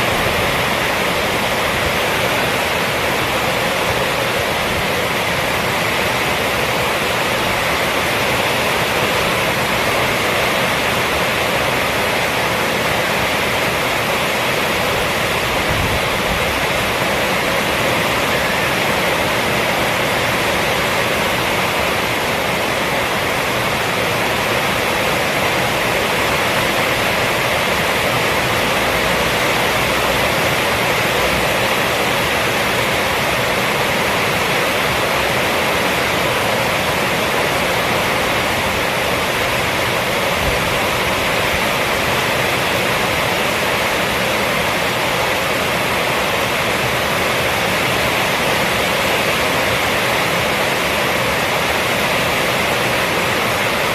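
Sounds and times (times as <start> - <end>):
heavy rain on a roof: 0.0 - 53.9.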